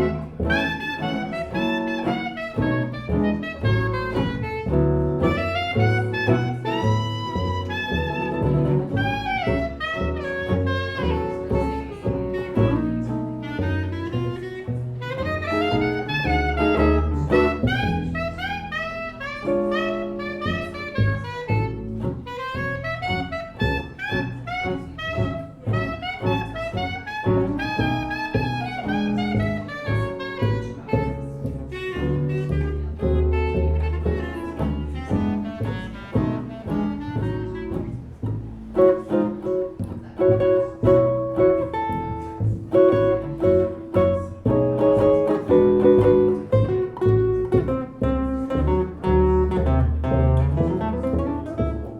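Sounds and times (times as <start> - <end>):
small jazz band playing: 0.0 - 51.9.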